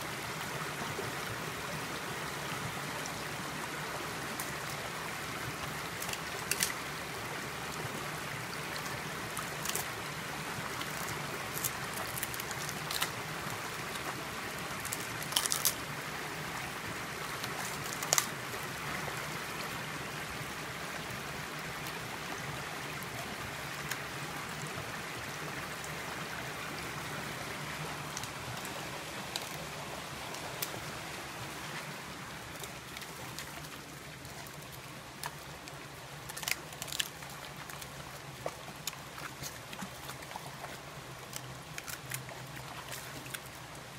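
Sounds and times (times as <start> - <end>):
creek running over rocks: 0.0 - 43.9.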